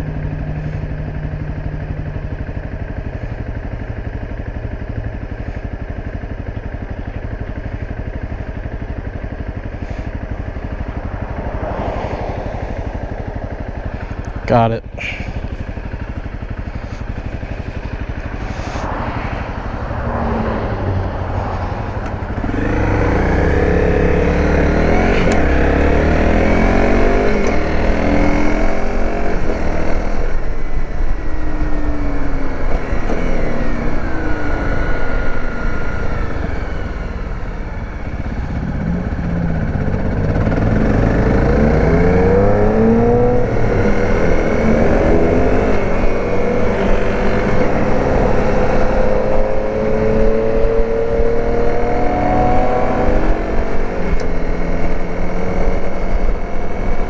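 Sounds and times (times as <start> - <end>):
dirt bike engine accelerating: 0.0 - 57.0.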